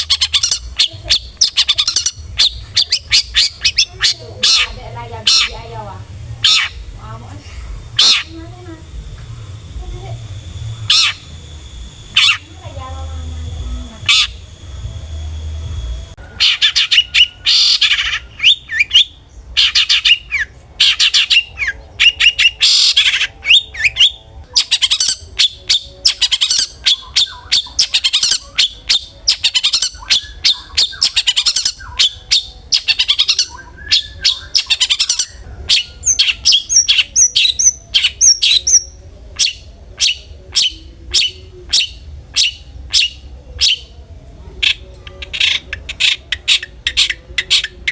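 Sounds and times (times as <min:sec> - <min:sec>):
shrike calling: 0:00.0 - 0:47.9
steady hum: 0:00.0 - 0:47.9.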